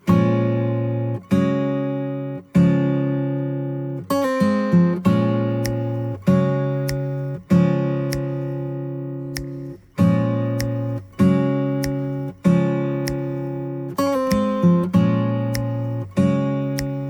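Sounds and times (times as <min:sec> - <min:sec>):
acoustic guitar strummed chords: 0:00.0 - 0:17.0.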